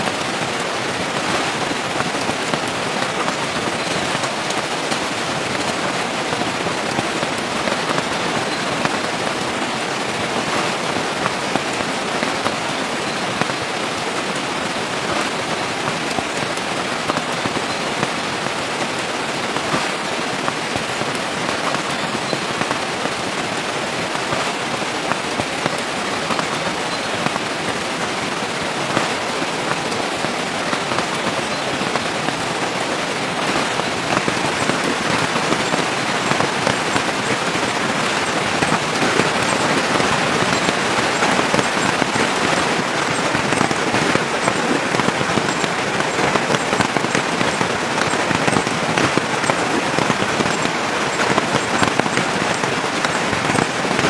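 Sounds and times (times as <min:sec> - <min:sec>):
raindrops tapping on surfaces: 0:00.0 - 0:54.0
steady rain falling: 0:00.0 - 0:54.0.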